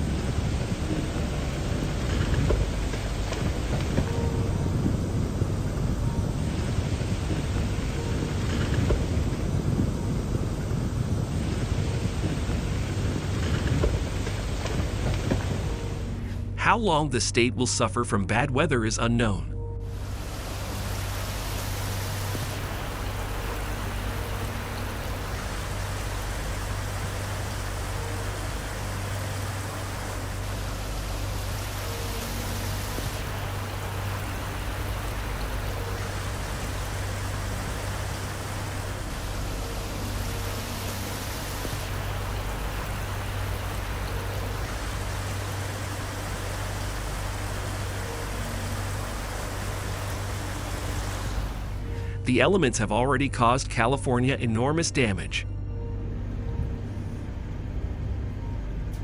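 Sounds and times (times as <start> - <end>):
heavy rain: 0.0 - 16.2, 19.9 - 52.2
running water: 0.0 - 16.2, 19.9 - 52.2
low rumble: 0.0 - 59.0.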